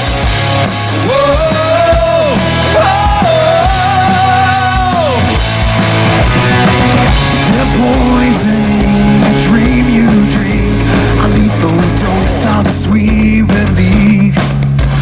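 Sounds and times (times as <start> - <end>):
guitar riff: 0.0 - 13.6
rock band playing live: 0.0 - 15.0.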